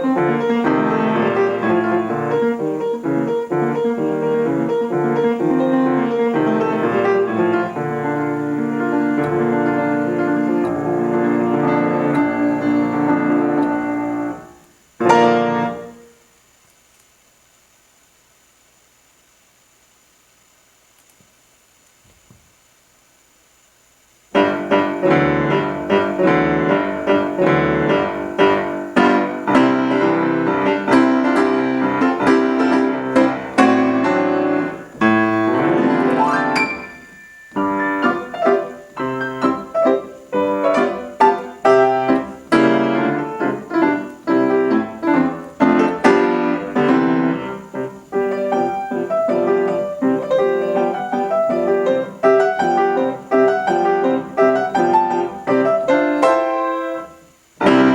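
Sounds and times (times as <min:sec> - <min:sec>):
solo piano classical piece: 0:00.0 - 0:16.3, 0:24.3 - 0:57.9.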